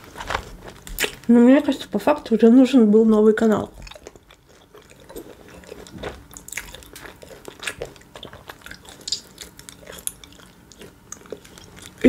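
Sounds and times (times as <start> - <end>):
mouth chewing food: 0.0 - 1.3, 3.1 - 12.0.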